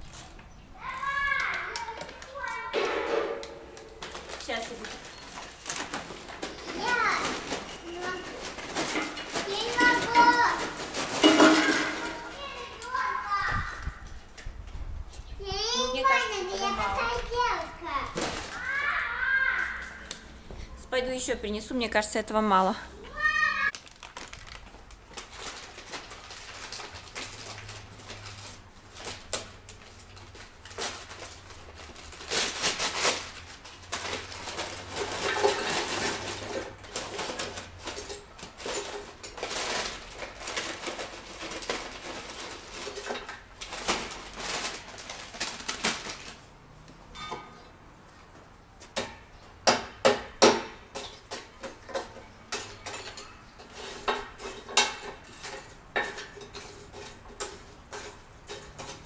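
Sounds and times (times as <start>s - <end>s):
charcoal clattering against metal: 0.0s - 13.5s, 23.2s - 47.6s, 48.8s - 59.0s.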